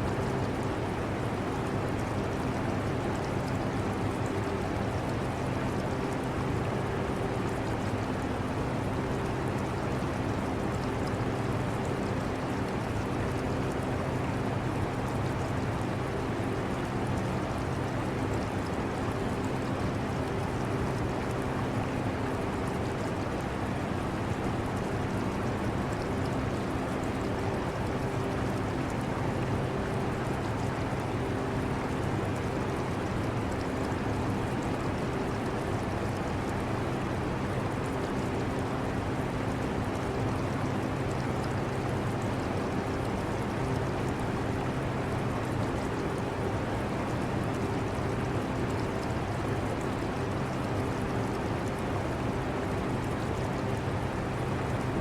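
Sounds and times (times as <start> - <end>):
aquarium water trickling: 0.1 - 55.0.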